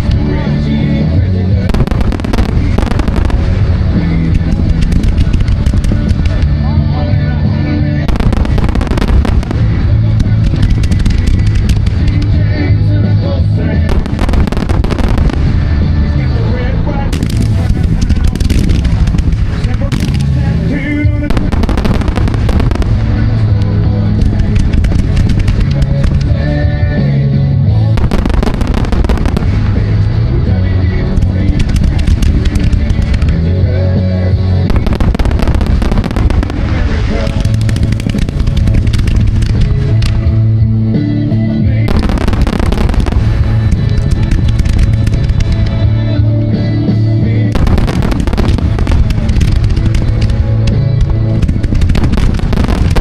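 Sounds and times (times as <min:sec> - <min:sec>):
fireworks popping and banging: 0:00.0 - 0:53.0
loud music: 0:00.0 - 0:53.0.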